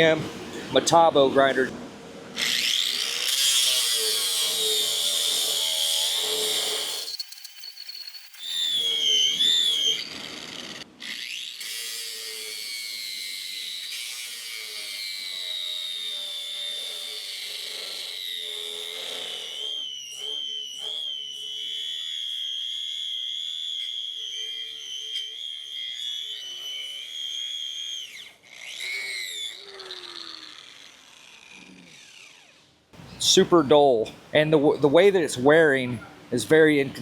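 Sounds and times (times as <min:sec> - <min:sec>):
angle grinder grinding steel: 0:02.4 - 0:33.4.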